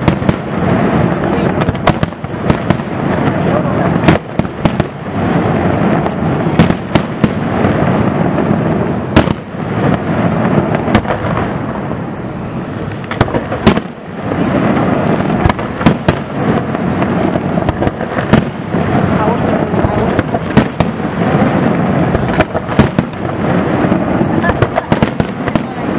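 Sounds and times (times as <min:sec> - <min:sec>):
continuous rumble: 0:00.0 - 0:25.9
firework bangs: 0:00.0 - 0:25.9.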